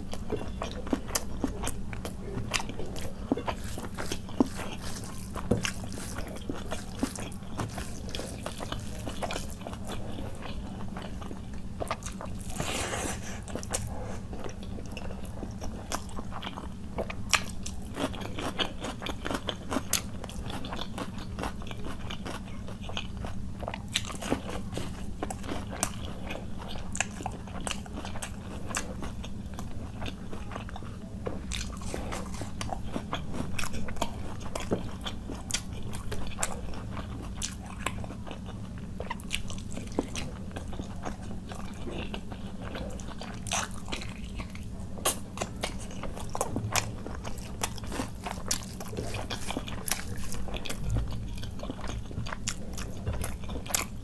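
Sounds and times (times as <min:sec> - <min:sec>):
chewing and mouth clicks: 0:00.0 - 0:12.7, 0:13.4 - 0:54.0
steady low hum: 0:00.0 - 0:54.0
noisy crunch: 0:00.2 - 0:54.0.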